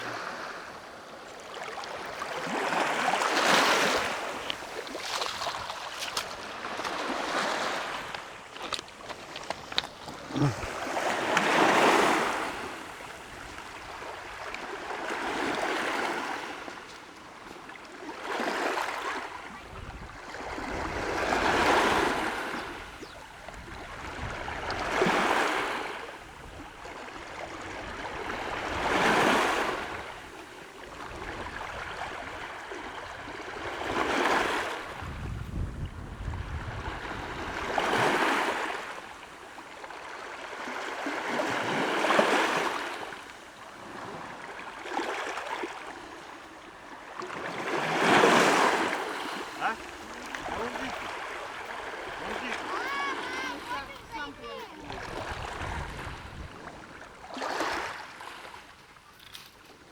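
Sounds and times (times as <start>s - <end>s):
small waves washing on shore: 0.0s - 59.9s.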